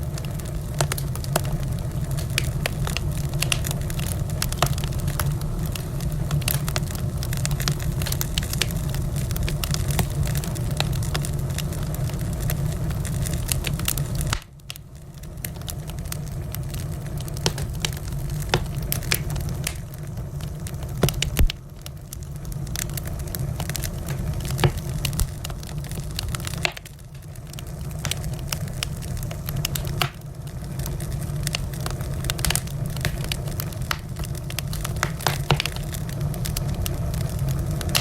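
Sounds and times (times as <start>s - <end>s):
low rumble of burning: 0.0s - 38.0s
wood fire crackling: 0.0s - 38.0s.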